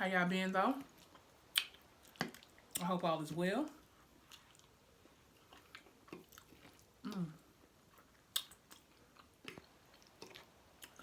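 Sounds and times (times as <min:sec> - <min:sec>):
person chewing food: 0:00.8 - 0:02.9, 0:03.7 - 0:11.0.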